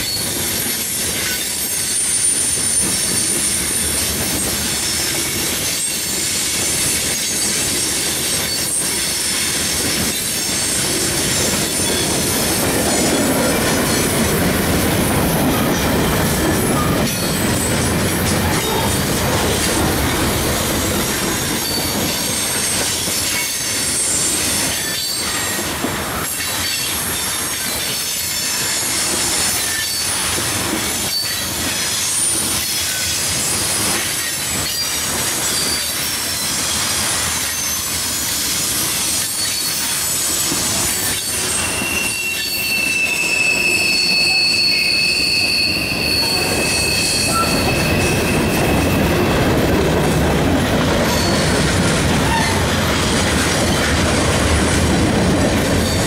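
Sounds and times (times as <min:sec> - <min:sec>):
high wheel squeal: 0:00.0 - 0:30.4, 0:31.0 - 0:49.5, 0:51.0 - 0:52.8
freight train wheels rumbling: 0:00.0 - 0:56.0
train clacks and knocks: 0:00.0 - 0:56.0.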